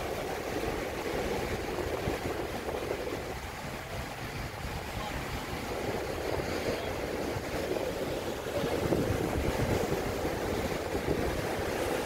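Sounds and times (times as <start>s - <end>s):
surf washing over rocky shore: 0.0s - 12.0s.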